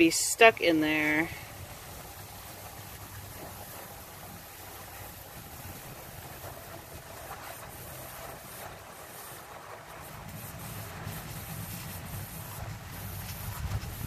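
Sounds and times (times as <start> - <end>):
waste water rushing through hose: 0.0 - 14.0.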